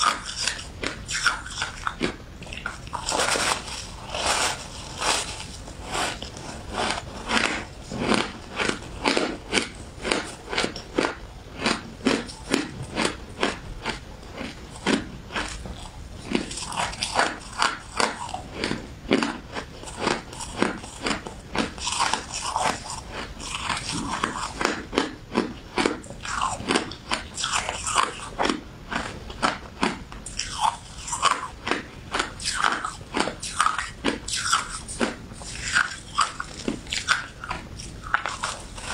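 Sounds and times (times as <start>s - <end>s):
chewing and crunching ice: 0.0s - 38.9s.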